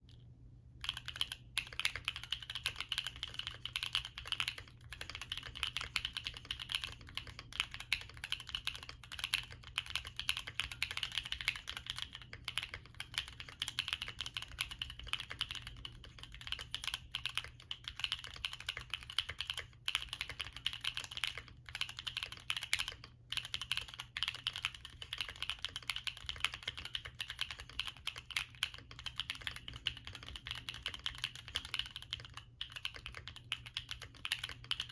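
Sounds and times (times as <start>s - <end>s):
mechanical keyboard typing: 0.8s - 34.9s.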